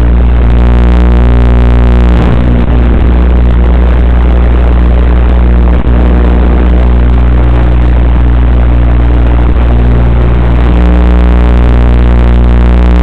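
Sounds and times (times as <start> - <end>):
loud electrical buzz: 0.0 - 13.0.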